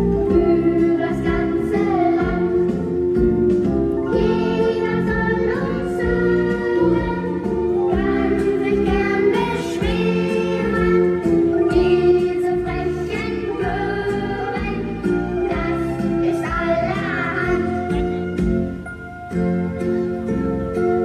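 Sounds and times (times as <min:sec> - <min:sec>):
song with singing over a beat: 0:00.0 - 0:19.3.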